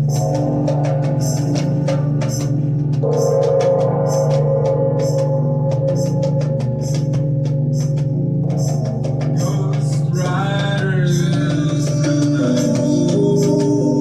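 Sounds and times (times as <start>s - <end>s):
percussion strikes: 0.0s - 14.0s.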